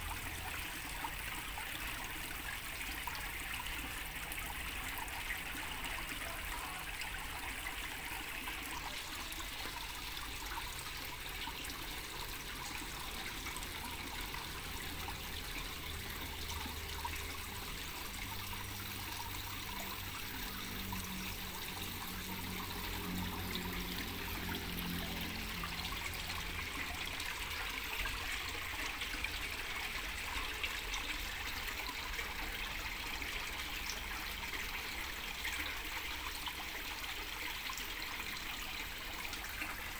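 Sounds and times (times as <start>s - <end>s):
water trickling into a pond: 0.0s - 39.9s.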